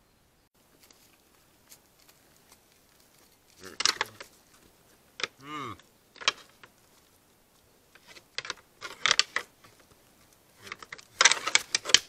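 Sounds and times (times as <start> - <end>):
deer feeding clicks and rustles: 0.6 - 12.0.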